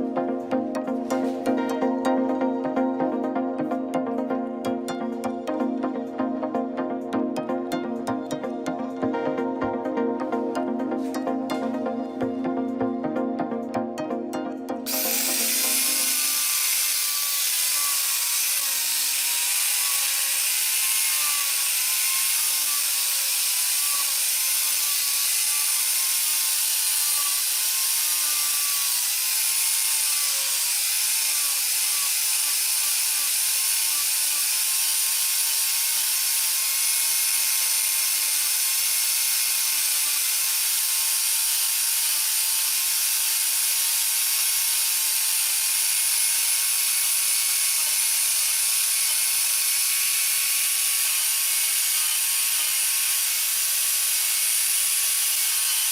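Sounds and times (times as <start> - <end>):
angle grinder cutting wood: 0.0 - 13.9, 14.6 - 55.9.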